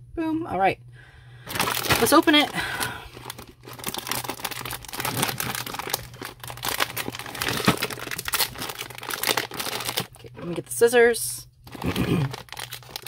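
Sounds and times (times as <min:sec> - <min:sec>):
plastic bag crinkling: 0:01.4 - 0:10.7, 0:11.6 - 0:13.0.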